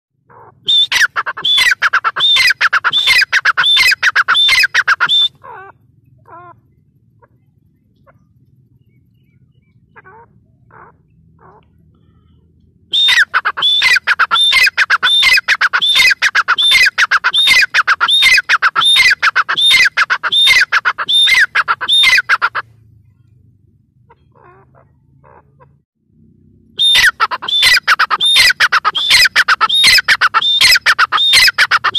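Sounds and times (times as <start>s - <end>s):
francolin calling: 0.3s - 22.6s, 26.8s - 31.9s.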